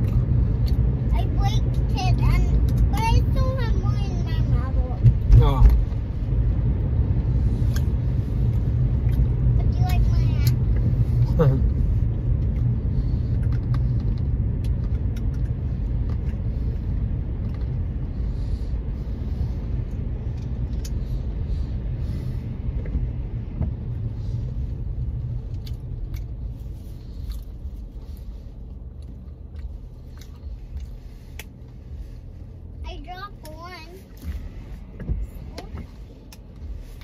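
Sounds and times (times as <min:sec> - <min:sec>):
car engine and road rumble: 0:00.0 - 0:37.0.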